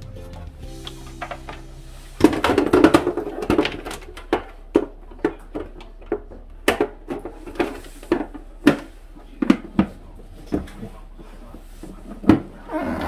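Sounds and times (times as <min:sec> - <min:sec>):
handling noise: 0:00.0 - 0:12.6.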